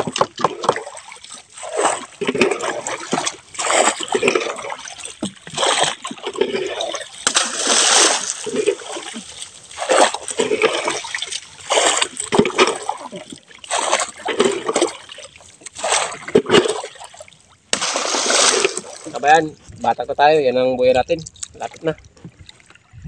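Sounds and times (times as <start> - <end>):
wooden pole splashing into water: 0.0 - 19.4.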